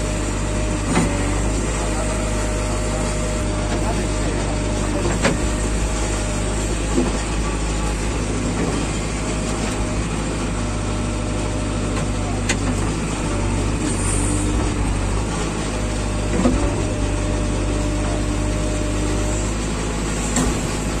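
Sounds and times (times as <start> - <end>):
diesel engine running: 0.0 - 21.0
hydraulic whine: 0.0 - 21.0.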